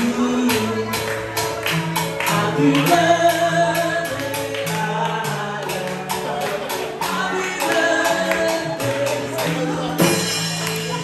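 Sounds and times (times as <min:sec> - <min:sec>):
live band music: 0:00.0 - 0:11.0
person singing: 0:00.0 - 0:11.0.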